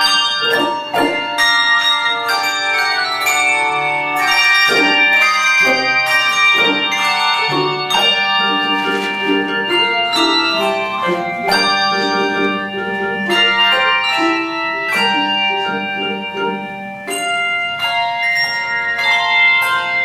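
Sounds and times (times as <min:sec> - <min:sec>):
handbell choir ringing: 0:00.0 - 0:20.0.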